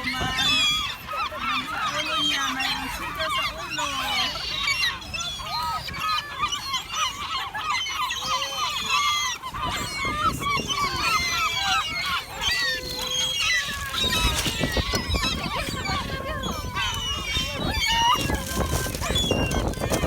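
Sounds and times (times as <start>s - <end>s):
gulls squawking: 0.0s - 20.0s.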